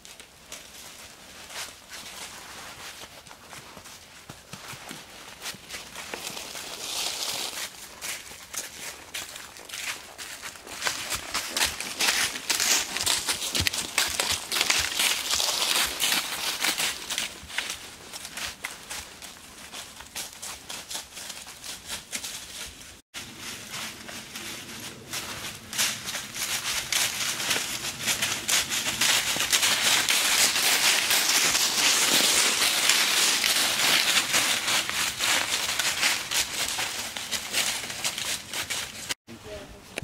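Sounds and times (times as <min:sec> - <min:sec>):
horse hooves crunching dry leaves: 0:00.0 - 0:39.7.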